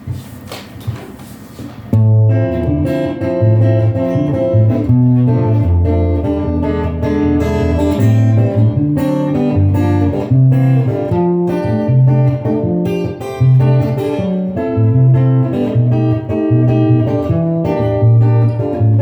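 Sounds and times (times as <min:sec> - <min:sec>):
acoustic guitar playing chords: 0:01.9 - 0:19.0.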